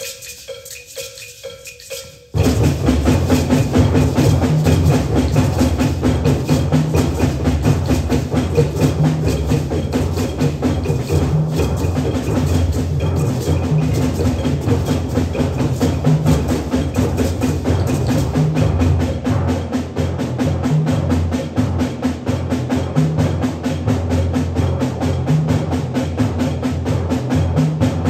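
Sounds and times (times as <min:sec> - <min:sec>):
small hand drums: 0:00.0 - 0:28.0
low timpani notes: 0:02.3 - 0:28.0.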